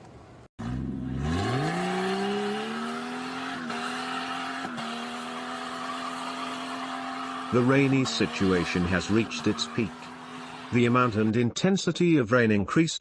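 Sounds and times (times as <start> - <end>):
car engine revving: 0.6 - 11.3.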